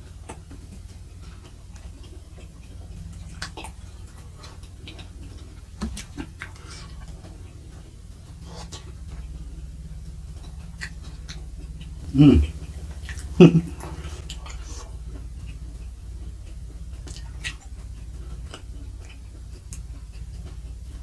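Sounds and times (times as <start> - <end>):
low steady hum: 0.0 - 21.0
person chewing: 0.0 - 21.0
wet mouth clicks and smacks: 0.1 - 7.7, 8.3 - 20.9.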